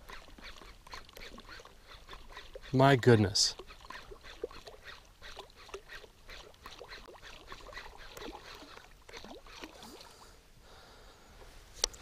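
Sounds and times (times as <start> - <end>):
water lapping against boat hull: 0.0 - 10.2.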